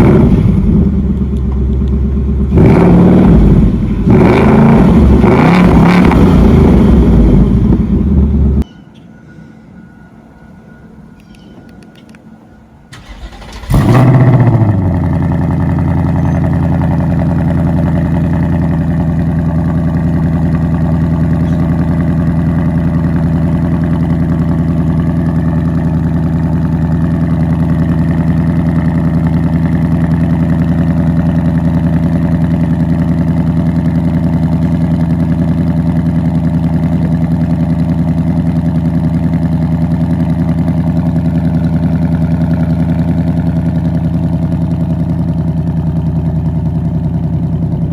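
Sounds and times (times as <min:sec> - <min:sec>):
car engine starting and idling: 0:00.0 - 0:08.6, 0:12.9 - 0:47.9.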